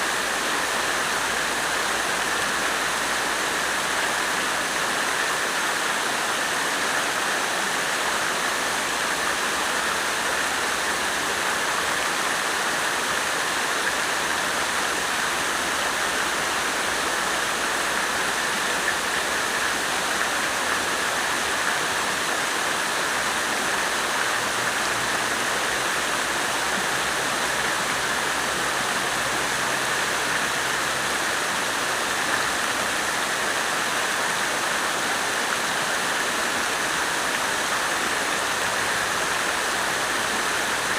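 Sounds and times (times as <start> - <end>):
water fountain splashing: 0.0 - 40.9.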